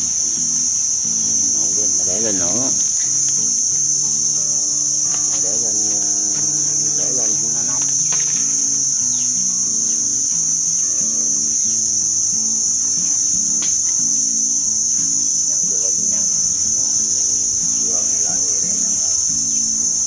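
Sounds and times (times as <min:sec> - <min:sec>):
high-pitched insect chorus: 0:00.0 - 0:20.0
quiet music: 0:00.0 - 0:20.0
wavering singing voice: 0:00.0 - 0:20.0.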